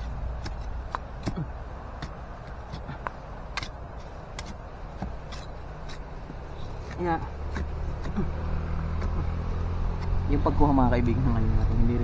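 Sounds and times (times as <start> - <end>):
hands scraping dry soil: 0.0 - 10.2.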